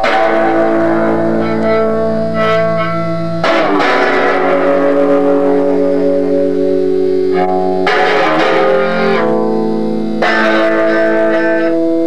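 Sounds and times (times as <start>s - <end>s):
guitar chords ringing: 0.0s - 12.0s.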